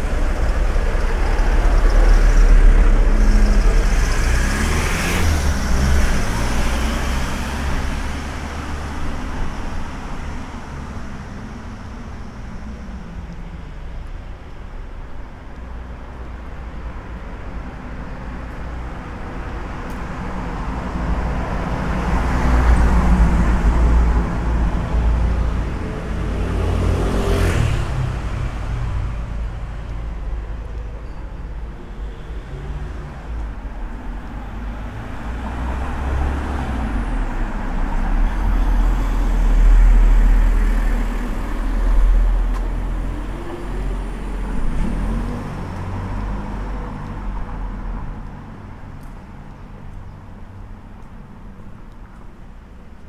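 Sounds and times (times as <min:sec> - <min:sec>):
cars driving past: 0:00.0 - 0:15.0, 0:16.8 - 0:53.0.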